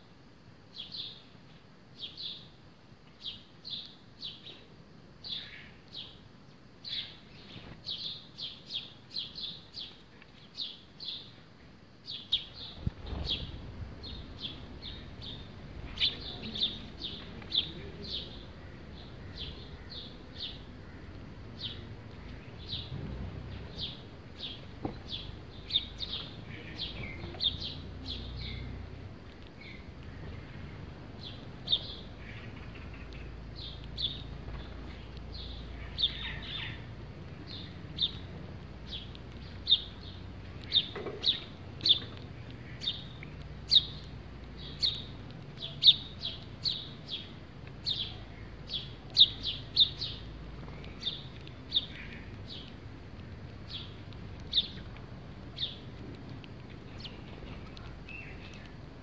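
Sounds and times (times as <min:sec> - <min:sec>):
sparrows chirping: 0:00.7 - 0:11.4, 0:12.0 - 0:59.0.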